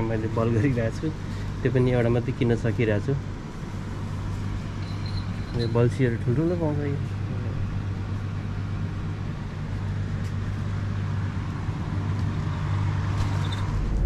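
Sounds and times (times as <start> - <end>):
car engine drone: 0.0 - 14.0
road noise: 0.0 - 14.0.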